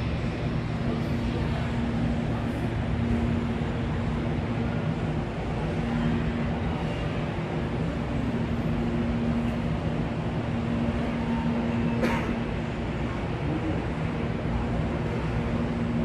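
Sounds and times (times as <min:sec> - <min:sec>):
railway station rumble: 0:00.0 - 0:16.0.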